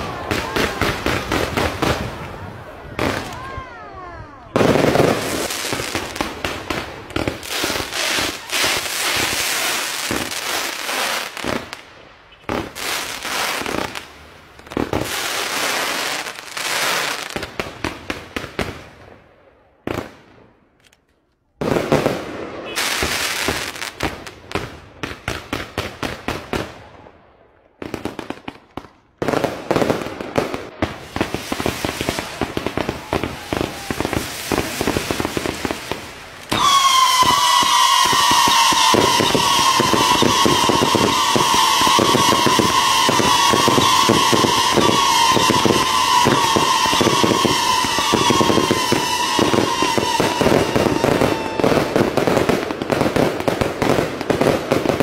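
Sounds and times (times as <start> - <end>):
fireworks bangs and crackling: 0.0 - 20.8, 21.5 - 55.0.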